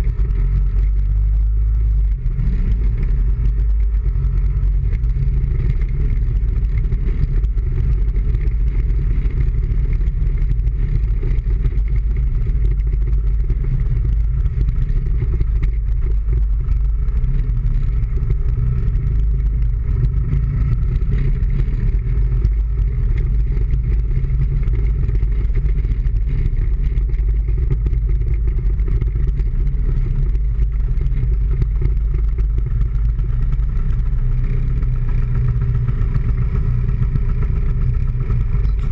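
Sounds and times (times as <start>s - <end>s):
road noise: 0.0s - 38.9s
vehicle engine: 0.0s - 38.9s.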